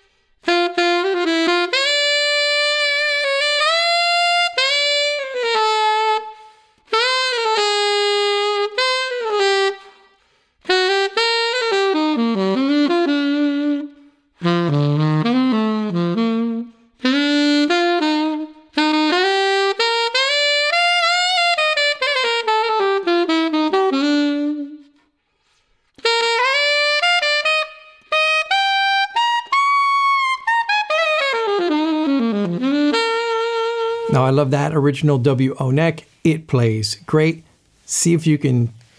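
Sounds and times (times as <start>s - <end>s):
saxophone playing jazz: 0.0s - 38.9s.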